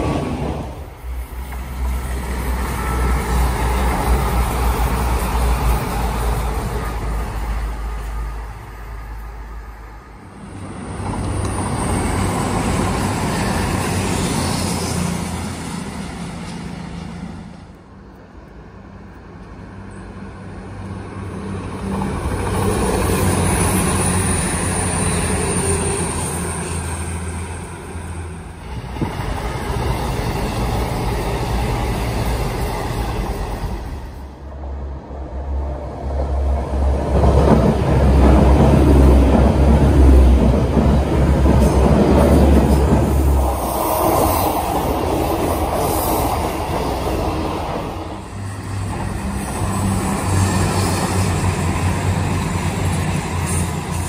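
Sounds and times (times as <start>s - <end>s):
diesel trains passing: 0.0s - 54.0s.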